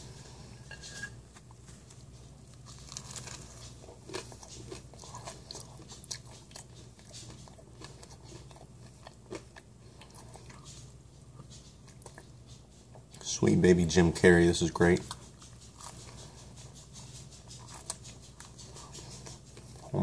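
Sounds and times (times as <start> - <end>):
steady low hum: 0.0 - 20.0
crisp chewing crunches: 1.3 - 13.3, 14.8 - 20.0.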